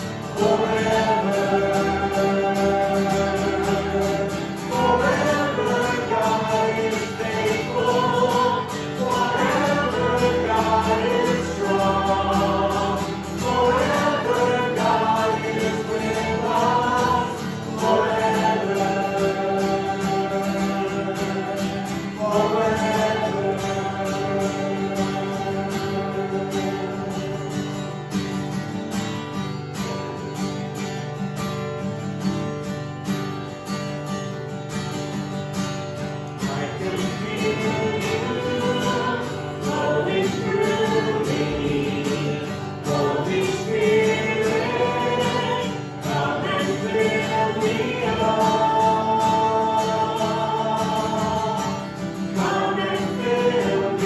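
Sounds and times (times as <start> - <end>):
group singing worship song: 0.0 - 27.8, 36.4 - 54.0.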